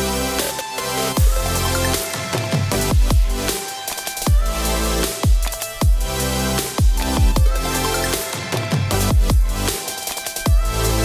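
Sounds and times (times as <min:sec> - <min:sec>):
electronic music with heavy beat: 0:00.0 - 0:11.0.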